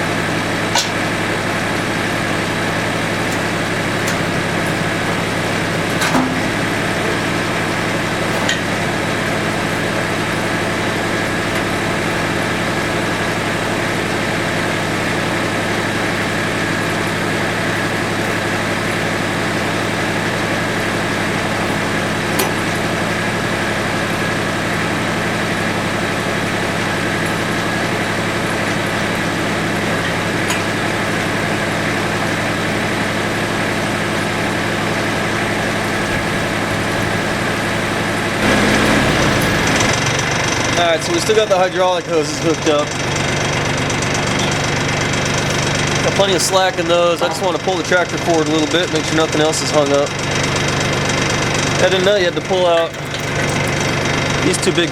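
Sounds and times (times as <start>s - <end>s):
tractor diesel engine idling: 0.0s - 54.9s.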